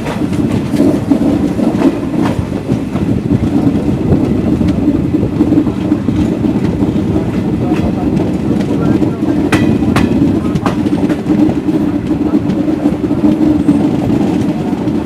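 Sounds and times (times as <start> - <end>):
train rumbling on board: 0.0 - 15.0
train wheels clacking on rail joints: 0.0 - 15.0.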